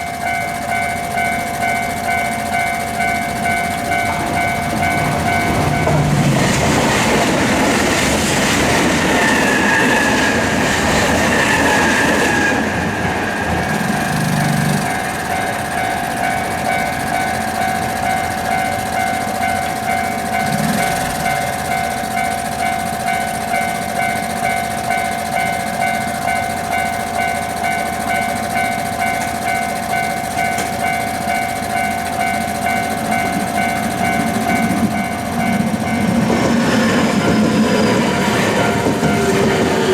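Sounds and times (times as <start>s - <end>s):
level crossing alarm clanging: 0.0s - 39.9s
train wheels on track: 0.0s - 39.9s.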